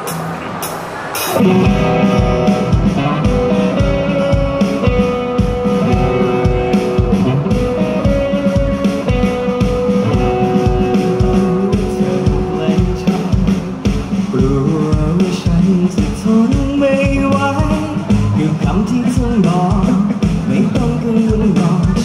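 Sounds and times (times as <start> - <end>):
electric guitar: 0.0 - 22.0
steady drum beat: 0.0 - 22.0
strummed acoustic guitar: 0.0 - 22.0.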